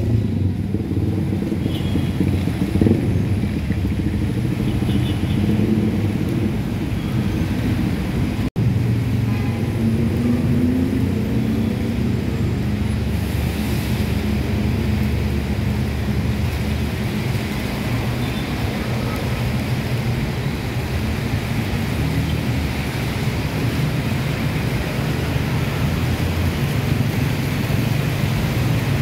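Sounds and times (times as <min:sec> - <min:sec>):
traffic on wet road: 0:00.0 - 0:29.0.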